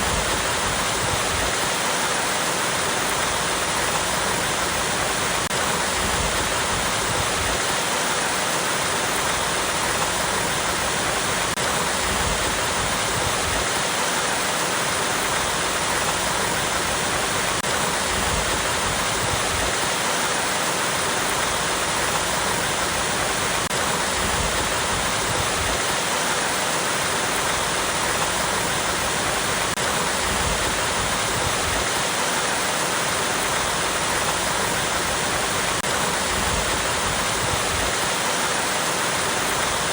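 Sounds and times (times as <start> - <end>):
small waterfall over rocks: 0.0 - 39.9.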